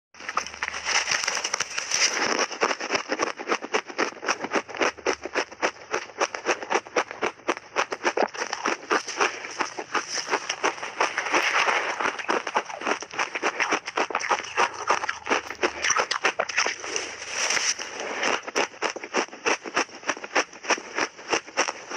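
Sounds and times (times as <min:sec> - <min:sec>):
crunching shaved ice: 0:00.2 - 0:21.9.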